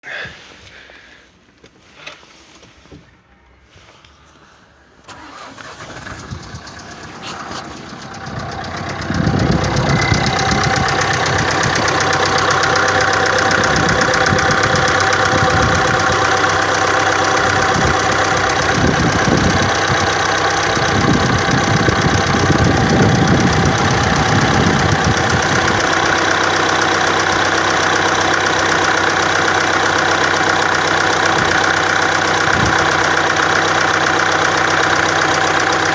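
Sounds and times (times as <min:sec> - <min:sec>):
engine cranking: 0:05.0 - 0:35.9
diesel engine running roughly: 0:05.1 - 0:35.9.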